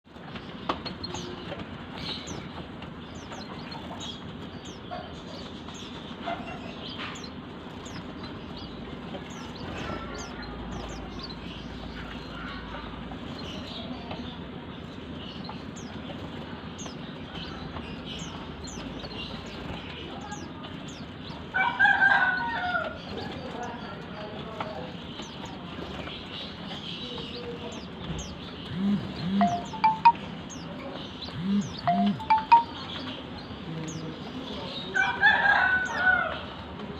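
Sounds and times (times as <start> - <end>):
small birds chirping: 0.1 - 36.6.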